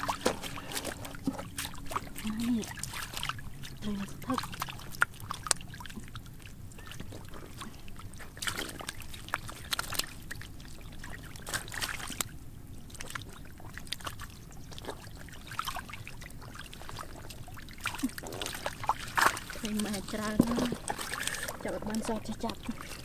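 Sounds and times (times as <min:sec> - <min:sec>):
fish thrashing in water: 0:00.0 - 0:23.0
muddy water splashing: 0:00.0 - 0:23.0.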